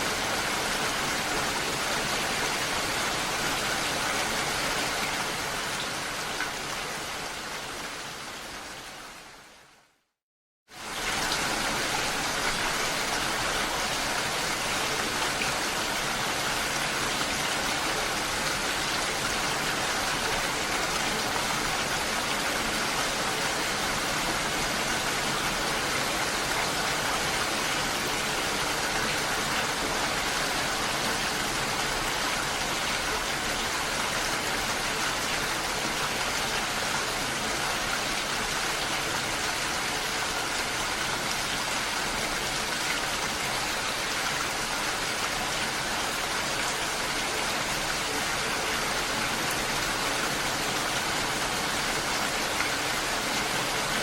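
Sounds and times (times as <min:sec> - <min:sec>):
rushing water: 0:00.0 - 0:09.9, 0:10.7 - 0:54.0.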